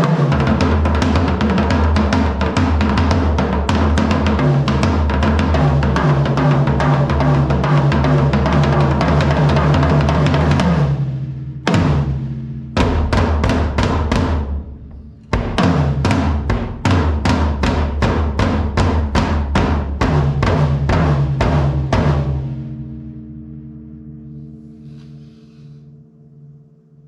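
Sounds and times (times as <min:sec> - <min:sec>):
drum hits ringing out: 0:00.0 - 0:22.8
drum roll on toms and kick: 0:00.0 - 0:23.0.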